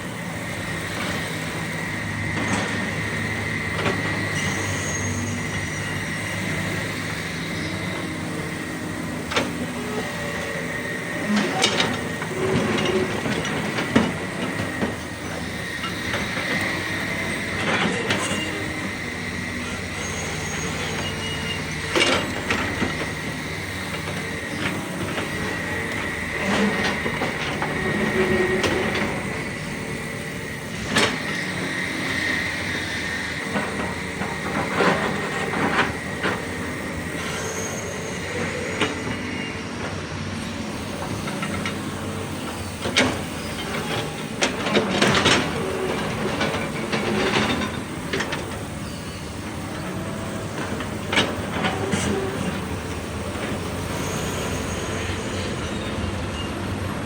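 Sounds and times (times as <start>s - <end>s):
diesel engine whining: 0.0s - 57.0s.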